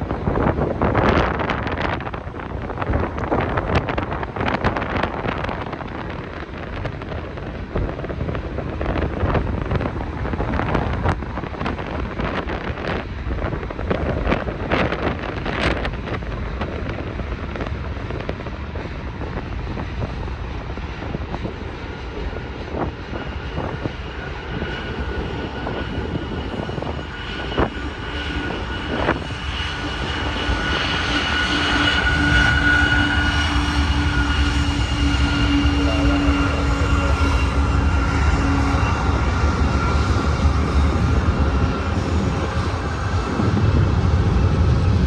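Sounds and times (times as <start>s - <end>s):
diesel locomotive engine rumble: 0.0s - 45.0s
steady whine: 0.0s - 45.0s
wind buffeting microphone: 0.0s - 45.0s.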